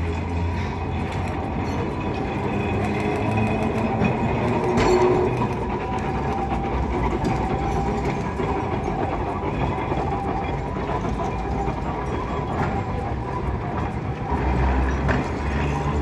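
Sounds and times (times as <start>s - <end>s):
streetcar wheels on rails: 0.0s - 16.0s.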